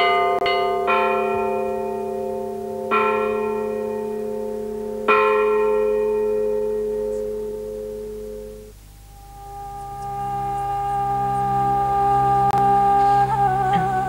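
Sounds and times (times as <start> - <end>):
church bell ringing: 0.0 - 14.0.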